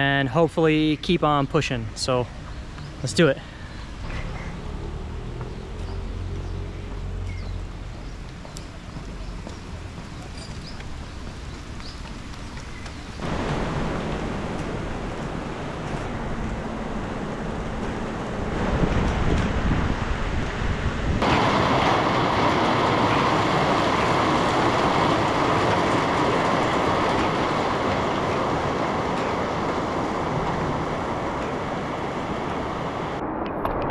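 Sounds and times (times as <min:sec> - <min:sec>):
steady rain: 0:02.3 - 0:20.6, 0:21.2 - 0:33.2
wind on microphone: 0:04.5 - 0:33.9.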